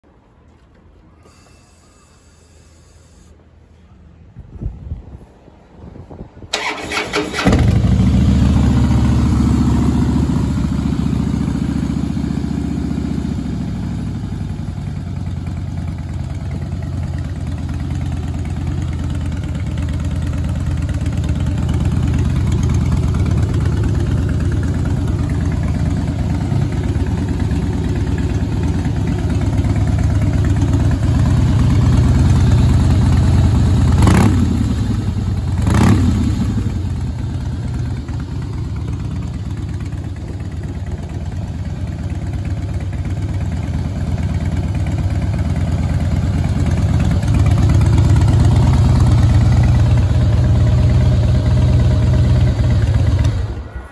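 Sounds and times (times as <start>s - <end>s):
motorcycle engine idling: 6.6s - 53.7s.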